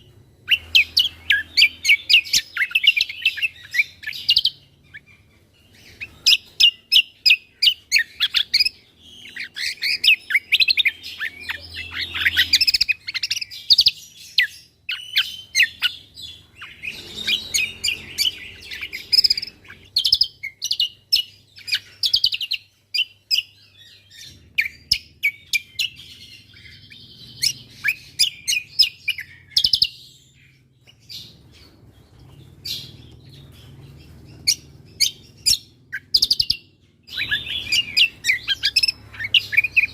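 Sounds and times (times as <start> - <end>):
songbird singing chirps and whistles: 0.0 - 39.9.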